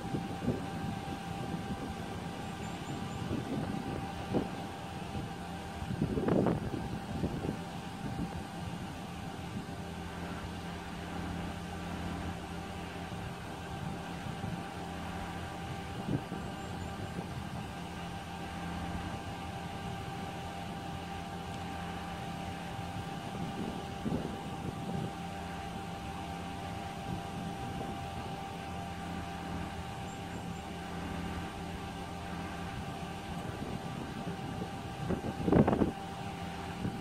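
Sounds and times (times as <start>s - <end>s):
concrete pump truck engine drone: 0.0s - 37.0s.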